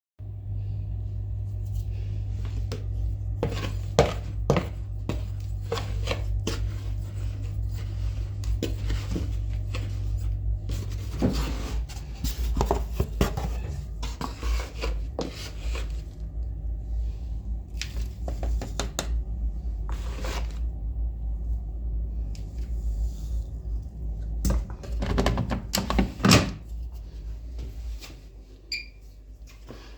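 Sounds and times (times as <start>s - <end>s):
steady low hum: 0.2s - 29.9s.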